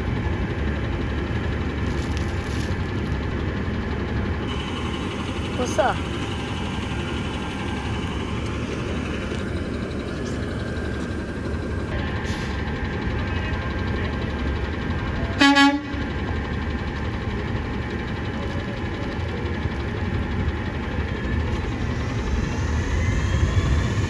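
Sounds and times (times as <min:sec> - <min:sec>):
diesel engines running: 0:00.0 - 0:24.0.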